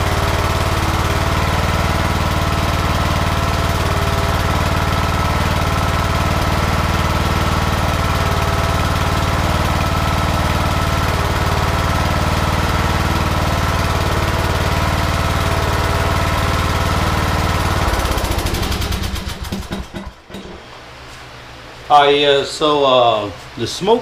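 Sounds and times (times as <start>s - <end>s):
engine sputtering to a stop: 0.0s - 20.7s
riding mower engine idling: 0.0s - 21.1s.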